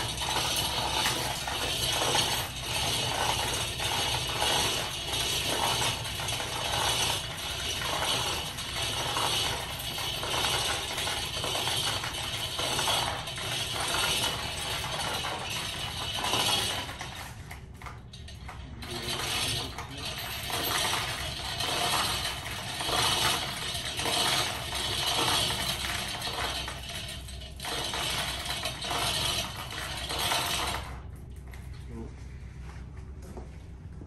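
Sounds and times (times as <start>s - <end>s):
chain rattling through hoist block: 0.0s - 31.1s.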